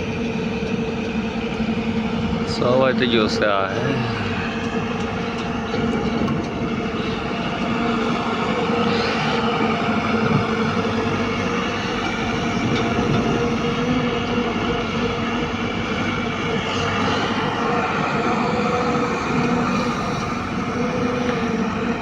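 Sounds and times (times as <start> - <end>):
heavy diesel engine droning: 0.0 - 22.0.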